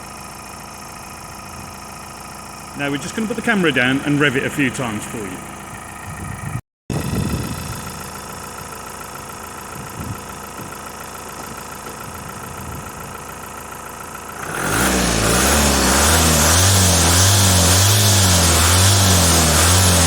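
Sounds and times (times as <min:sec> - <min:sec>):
diesel engine idling and revving: 0:00.0 - 0:20.0.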